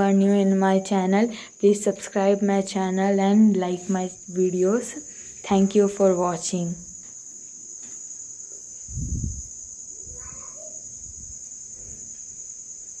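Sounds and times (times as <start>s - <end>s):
high-pitched insect-like whine: 0.0s - 13.0s.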